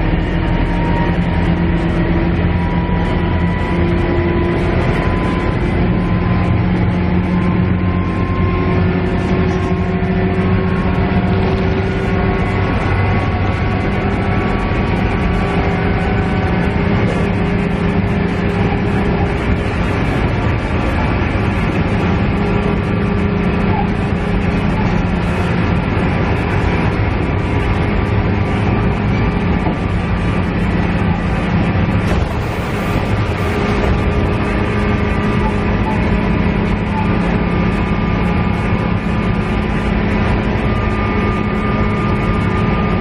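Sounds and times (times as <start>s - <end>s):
railcar diesel engine drone: 0.0s - 43.0s
train running noise: 0.0s - 43.0s.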